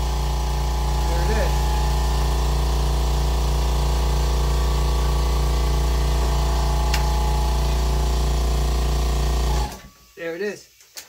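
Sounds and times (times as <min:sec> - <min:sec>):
air compressor running: 0:00.0 - 0:10.2.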